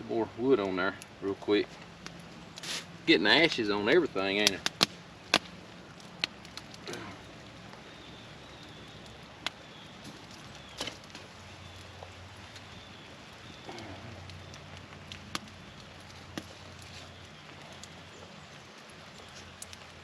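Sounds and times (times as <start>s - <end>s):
campfire hissing: 0.0s - 20.0s
wood popping in fire: 0.0s - 20.0s.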